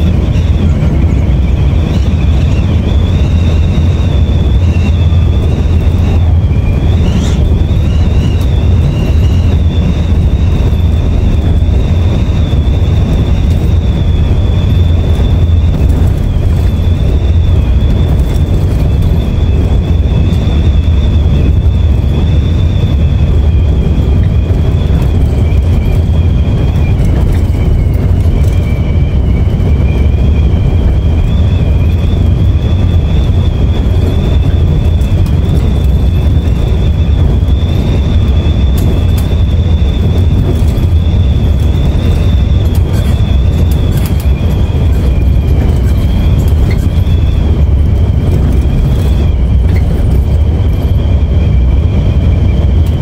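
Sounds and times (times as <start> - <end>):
bus engine and road rumble: 0.0 - 53.0
high-pitched whine: 0.0 - 53.0.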